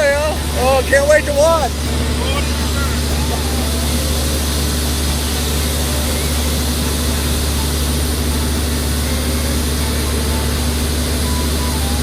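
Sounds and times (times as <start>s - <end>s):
heavy machinery engine droning: 0.0s - 12.0s.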